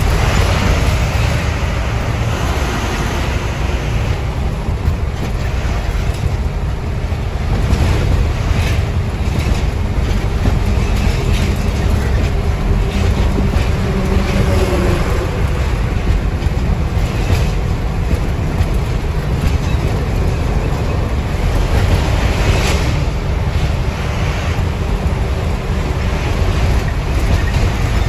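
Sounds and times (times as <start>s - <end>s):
road noise: 0.0s - 28.0s.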